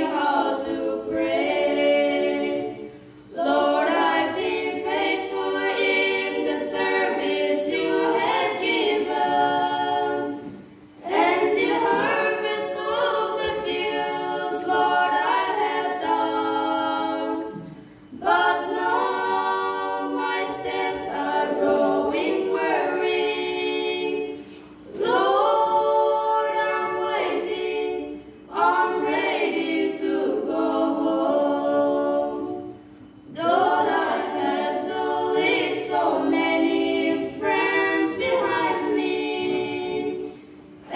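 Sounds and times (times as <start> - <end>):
girls singing a cappella: 0.0 - 40.9.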